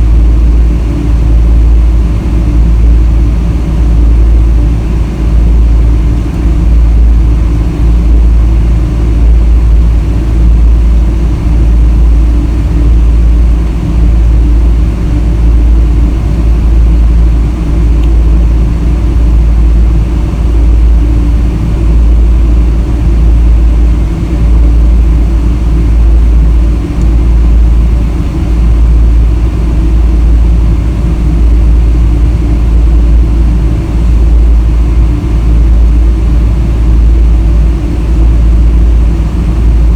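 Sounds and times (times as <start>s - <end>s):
airliner engines rumbling: 0.0s - 39.9s
faint steady hum: 0.0s - 39.9s.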